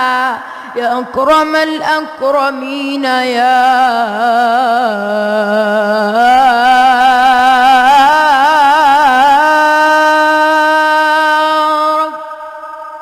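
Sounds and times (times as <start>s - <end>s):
child chanting: 0.0s - 13.0s.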